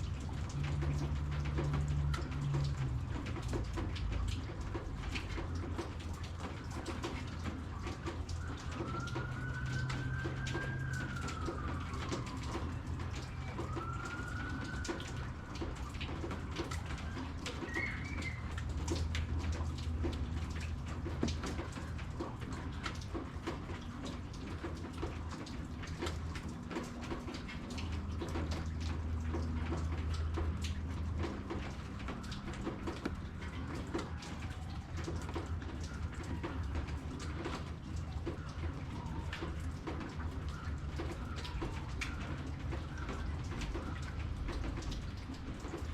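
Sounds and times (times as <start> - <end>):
rain dripping: 0.0 - 45.9.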